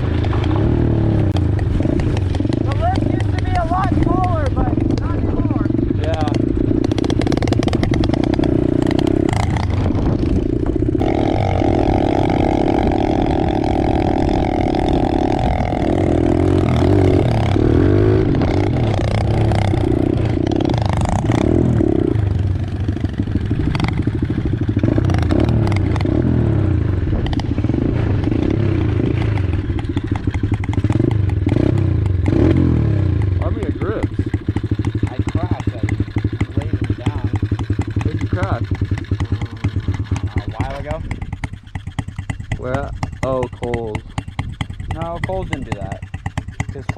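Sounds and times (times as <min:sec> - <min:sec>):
bike rattling: 0:00.0 - 0:46.9.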